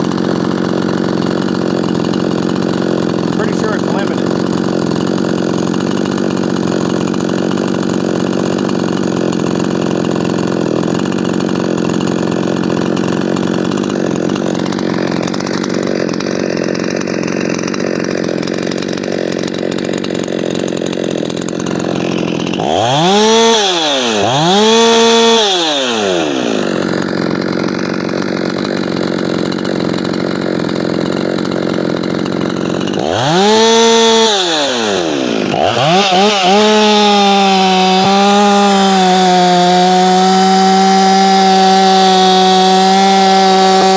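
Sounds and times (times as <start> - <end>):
chainsaw cutting at full throttle: 0.0 - 43.9.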